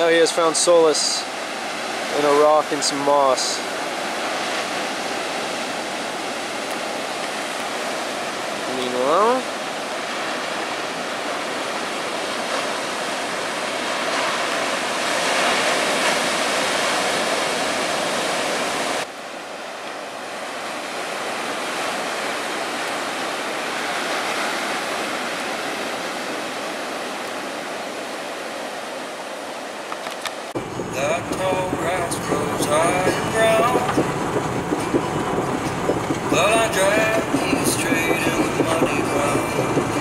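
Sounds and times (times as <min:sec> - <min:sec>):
waves breaking on shore: 0:00.0 - 0:40.0.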